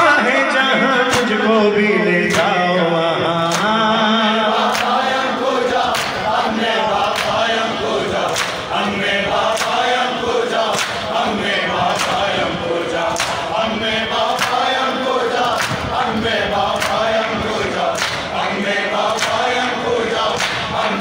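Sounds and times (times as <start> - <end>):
men chanting a lament: 0.0 - 21.0.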